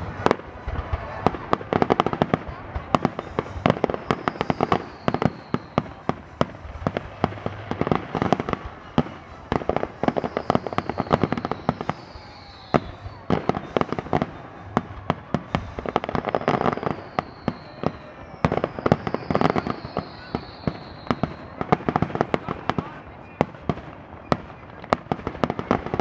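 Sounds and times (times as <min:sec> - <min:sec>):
firework bangs and crackling: 0:00.0 - 0:26.0
firework whistles falling in pitch: 0:00.0 - 0:26.0.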